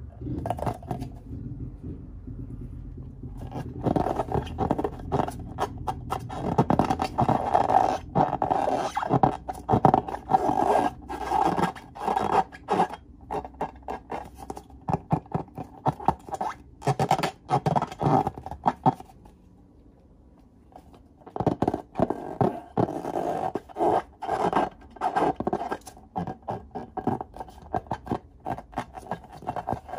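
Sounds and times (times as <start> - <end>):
rubbery balloon squeaks: 0.2 - 1.3, 3.4 - 19.2, 21.2 - 29.9
hands rubbing balloons: 3.3 - 19.3, 20.8 - 29.9.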